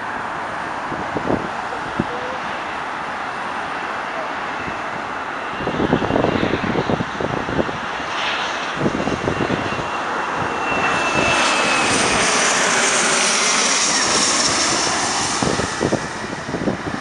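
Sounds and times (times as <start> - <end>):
jet engines roaring with high whine: 0.0 - 17.0.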